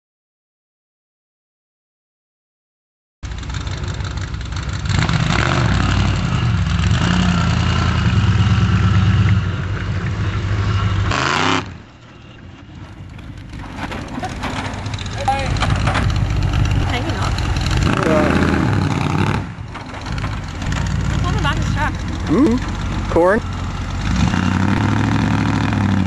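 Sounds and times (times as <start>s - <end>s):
truck engine revving: 3.2s - 26.0s.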